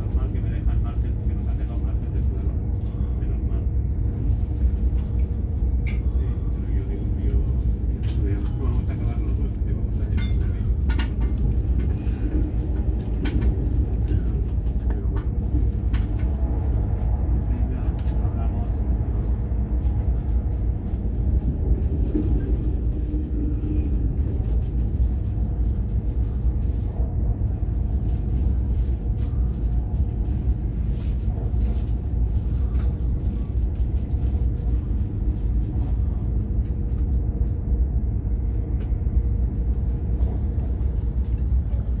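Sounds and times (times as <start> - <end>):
train rumbling at speed: 0.0 - 42.0.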